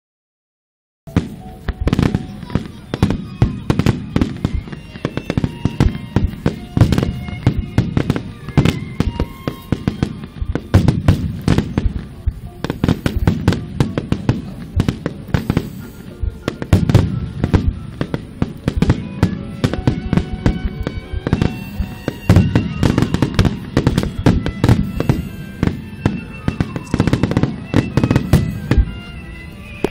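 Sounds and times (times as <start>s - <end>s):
fireworks cracking and booming: 1.1s - 29.9s.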